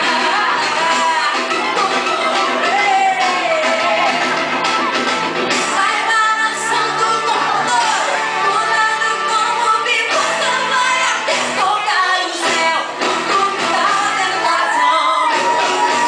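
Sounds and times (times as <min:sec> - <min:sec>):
girls singing: 0:00.0 - 0:04.8, 0:05.6 - 0:16.0.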